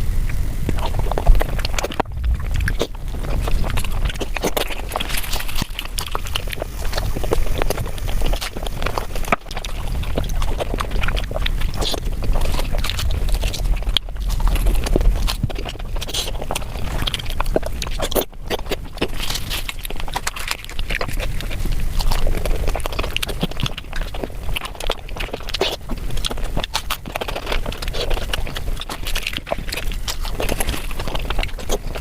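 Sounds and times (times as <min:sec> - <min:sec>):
chewing and crunching: 0:00.0 - 0:32.0.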